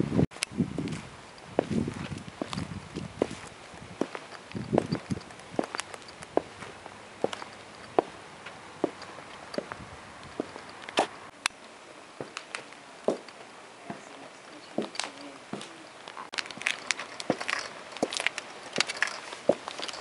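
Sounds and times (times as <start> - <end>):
boot heels clicking on concrete: 0.8 - 11.3, 12.2 - 14.1, 14.8 - 20.0.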